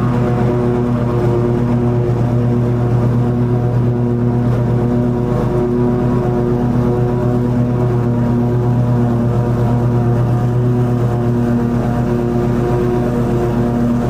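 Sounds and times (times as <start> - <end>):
lawn mower engine humming: 0.0 - 14.0.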